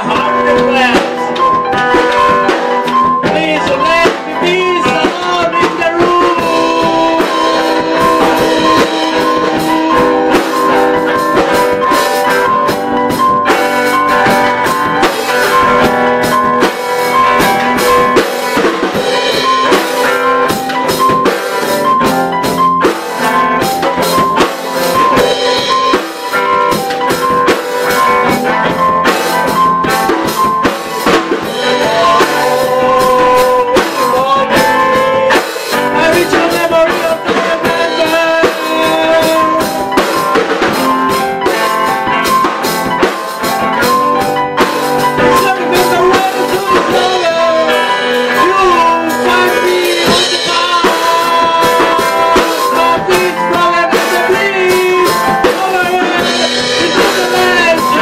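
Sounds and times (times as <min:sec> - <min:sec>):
band playing live: 0:00.0 - 0:58.0
drum hits: 0:00.0 - 0:58.0
guitar: 0:00.0 - 0:58.0.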